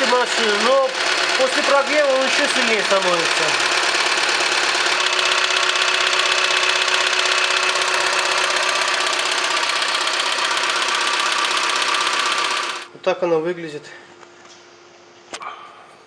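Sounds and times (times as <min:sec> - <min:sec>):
car engine running: 0:00.0 - 0:12.9
rapid steady engine knocking: 0:00.0 - 0:12.9.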